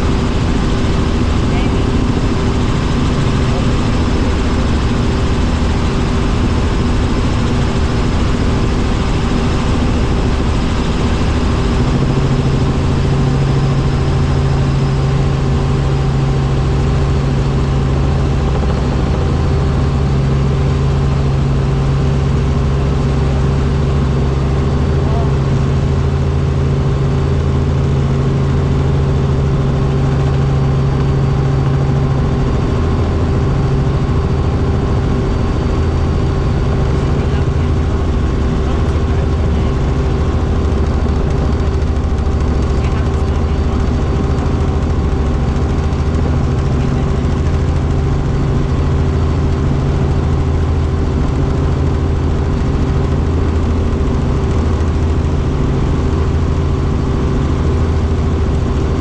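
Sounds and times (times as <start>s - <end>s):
helicopter drone in cabin: 0.0s - 59.0s.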